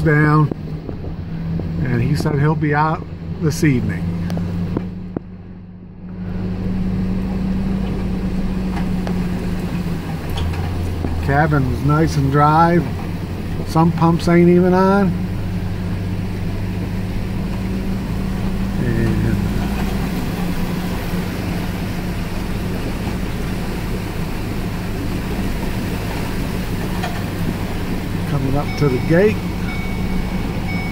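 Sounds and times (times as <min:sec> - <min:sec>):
truck engine running: 0:00.0 - 0:30.9
water washing around vehicle: 0:00.0 - 0:30.9.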